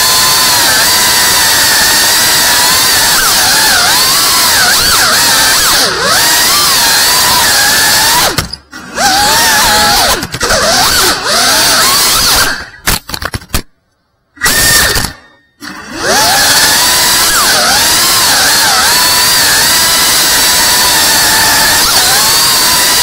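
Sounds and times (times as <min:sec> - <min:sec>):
quadcopter motors whining: 0:00.0 - 0:12.8, 0:14.4 - 0:23.0.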